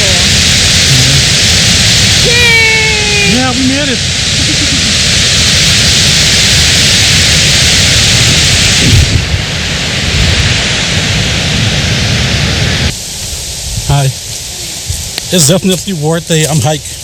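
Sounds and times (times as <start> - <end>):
low rumble of water: 0.0 - 15.2
waterfall rushing: 0.0 - 17.0.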